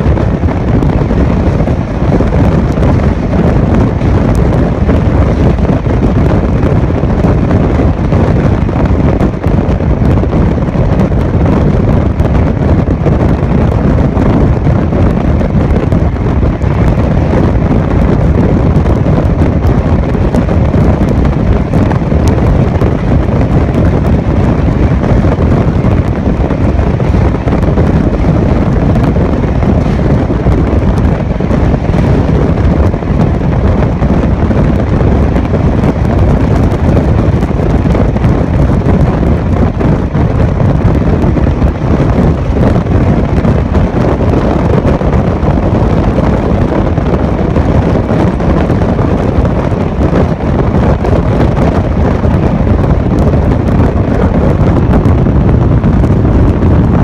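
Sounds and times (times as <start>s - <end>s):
train running on track: 0.0s - 57.0s
wind buffeting a microphone: 0.0s - 57.0s.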